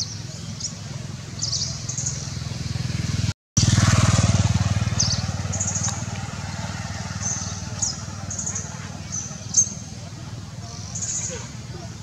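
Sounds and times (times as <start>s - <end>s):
motor engine humming: 0.7s - 10.8s.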